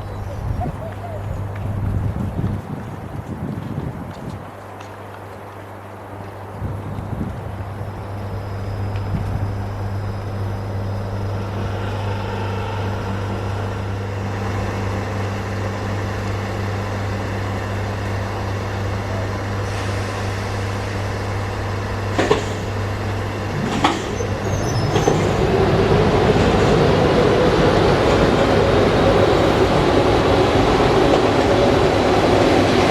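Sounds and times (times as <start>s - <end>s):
electric train approaching: 5.3s - 32.9s.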